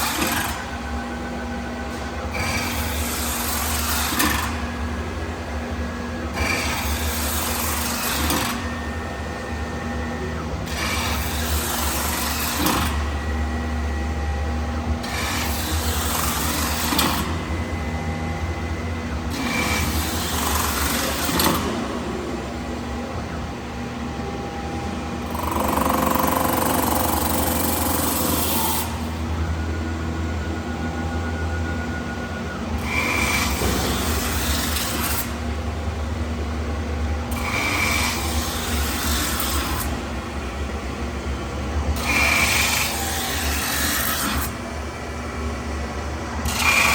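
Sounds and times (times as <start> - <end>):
lathe motor hum: 4.7 - 46.9.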